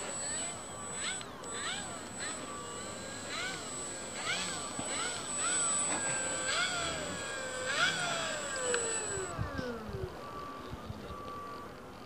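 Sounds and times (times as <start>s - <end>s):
model plane electric motor: 0.0s - 11.8s.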